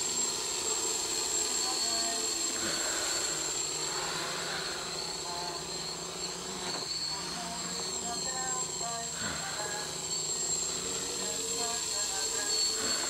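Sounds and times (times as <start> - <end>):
propeller air rush: 0.0 - 13.0
quadcopter motors whining: 0.0 - 13.0.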